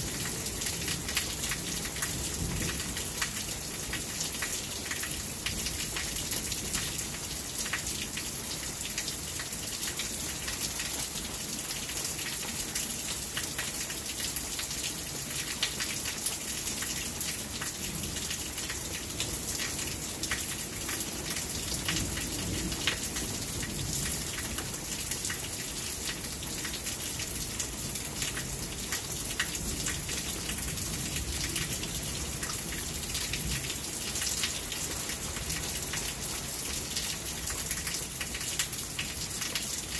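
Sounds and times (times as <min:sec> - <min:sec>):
raindrops ticking on hard surfaces: 0:00.0 - 0:39.9
steady rain falling: 0:00.0 - 0:39.9.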